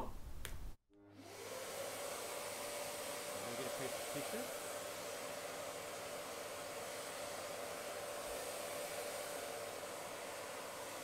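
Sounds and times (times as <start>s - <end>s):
vacuum cleaner running: 1.0s - 11.0s.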